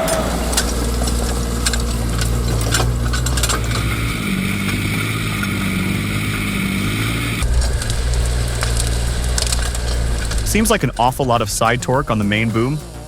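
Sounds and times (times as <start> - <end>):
excavator diesel engine running: 0.0 - 13.0
hiss: 0.0 - 13.0
wavering whine: 0.0 - 13.0.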